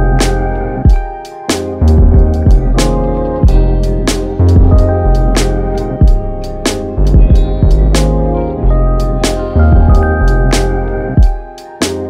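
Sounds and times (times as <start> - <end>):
instrumental music with beat: 0.0 - 12.0.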